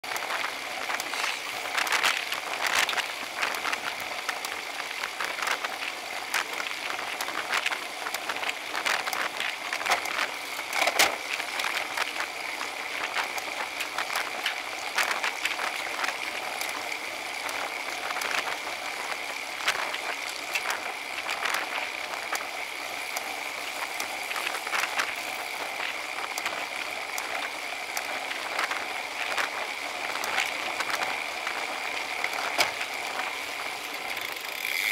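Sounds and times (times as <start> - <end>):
bike clicks and rattles: 0.0 - 34.9.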